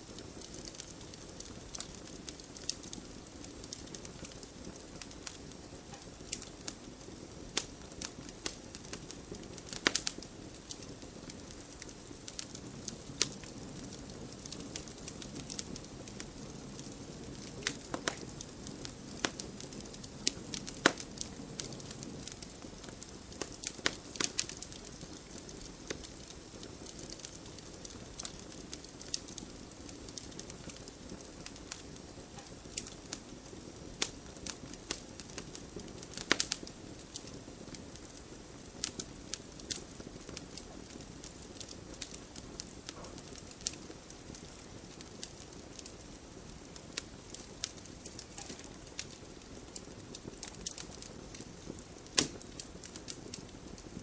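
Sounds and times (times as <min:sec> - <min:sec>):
burning logs crackling: 0:00.0 - 0:54.0
fire flames rumbling: 0:00.0 - 0:54.0.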